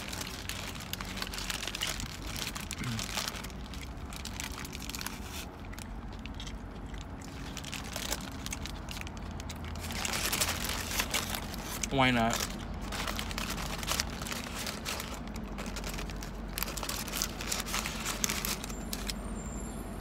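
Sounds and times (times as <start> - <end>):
paper wrapper crinkling: 0.0 - 19.2.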